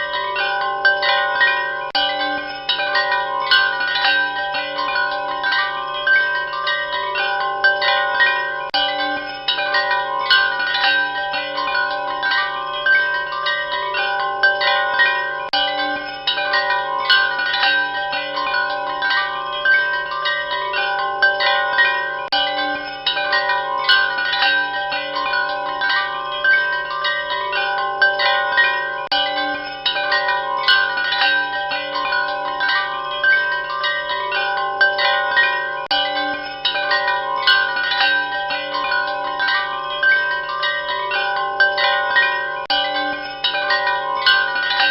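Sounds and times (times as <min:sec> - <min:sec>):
wind chimes ringing: 0:00.0 - 0:44.9.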